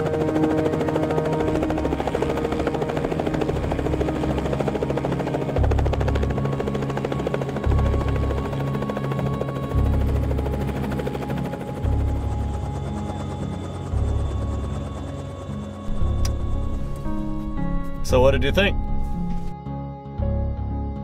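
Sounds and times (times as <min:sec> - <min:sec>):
helicopter rotor chopping: 0:00.0 - 0:19.3
background music: 0:00.0 - 0:21.0.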